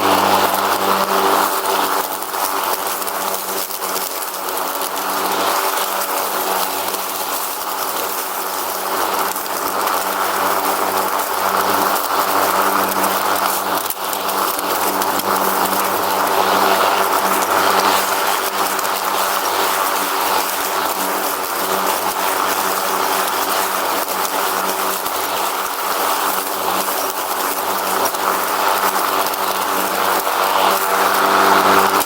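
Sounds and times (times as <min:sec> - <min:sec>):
riding lawn mower running: 0:00.0 - 0:32.0.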